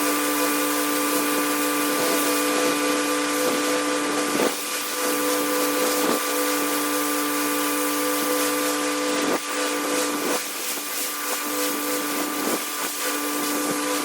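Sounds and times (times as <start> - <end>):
pressure washer running: 0.0 - 14.0.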